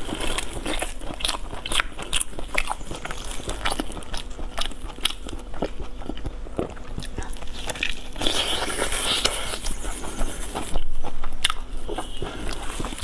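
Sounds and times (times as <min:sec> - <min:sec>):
person chewing meat: 0:00.0 - 0:13.0.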